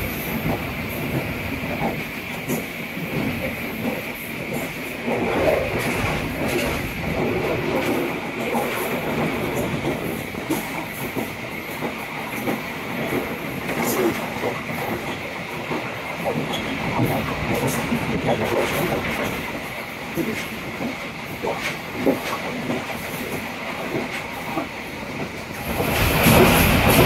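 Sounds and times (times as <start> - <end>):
clicks and knocks of train: 0.0 - 27.0
train wheels rumbling on rails: 0.0 - 27.0.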